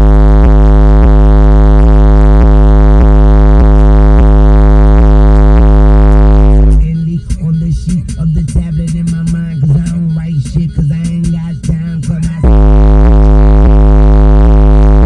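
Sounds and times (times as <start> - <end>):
deep distorted subwoofer bass: 0.0 - 15.0
faint pulsing beat: 0.0 - 15.0.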